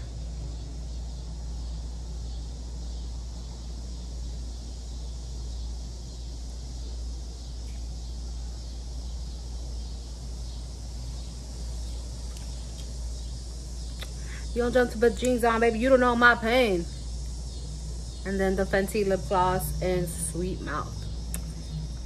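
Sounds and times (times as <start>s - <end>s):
constant low hum: 0.0s - 22.0s
high hiss: 0.0s - 22.0s.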